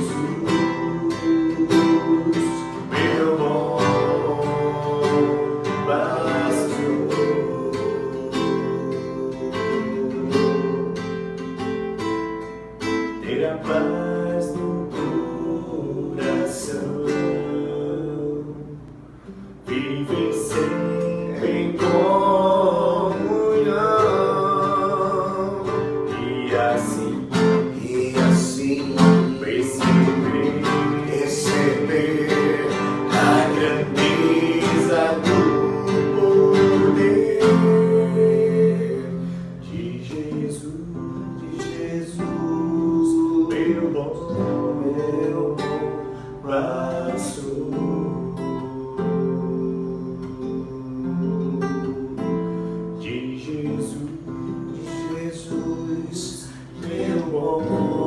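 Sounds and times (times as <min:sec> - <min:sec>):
acoustic guitar worship music: 0:00.0 - 0:58.0.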